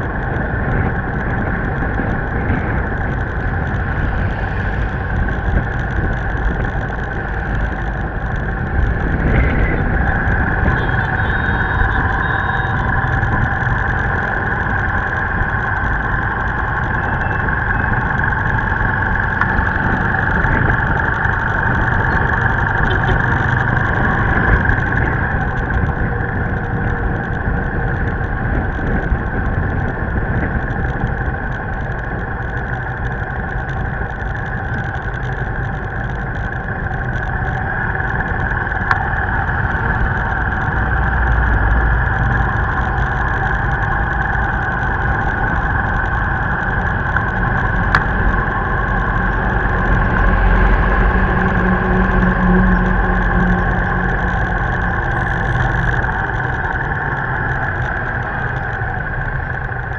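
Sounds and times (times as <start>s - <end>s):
motorbike engines: 0.0s - 59.9s
road and wind noise: 0.0s - 59.9s
truck engine rumble: 0.0s - 59.9s
vehicle engine running: 0.0s - 59.9s.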